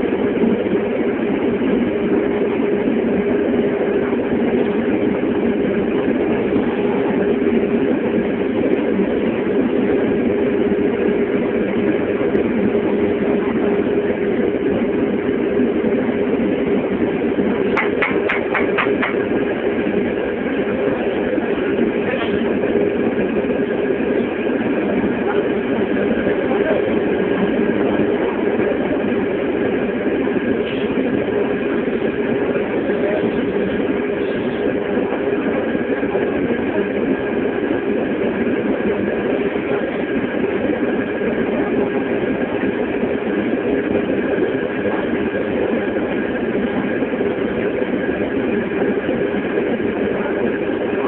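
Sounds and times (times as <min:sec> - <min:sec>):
motor droning with whine: 0:00.0 - 0:51.0.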